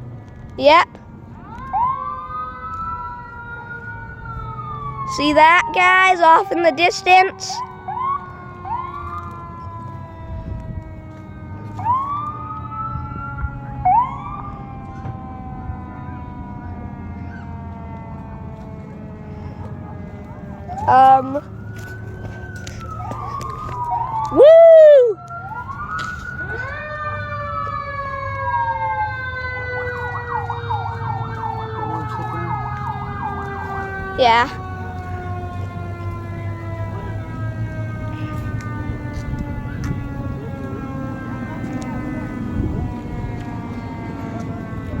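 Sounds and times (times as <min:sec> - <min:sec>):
emergency vehicle siren wailing: 0:00.0 - 0:45.0
low rumble of vehicle engines: 0:00.0 - 0:45.0.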